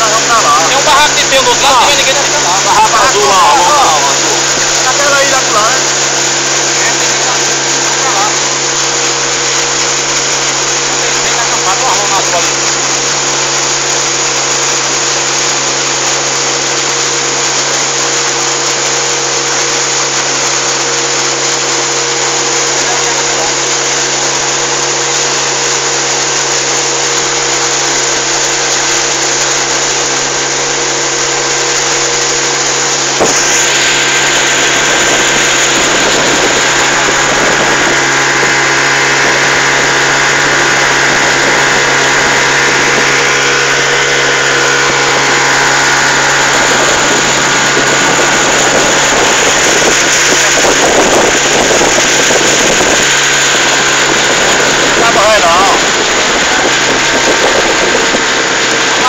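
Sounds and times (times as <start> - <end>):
boat motor running: 0.0 - 59.0
water and wind rushing: 0.0 - 59.0.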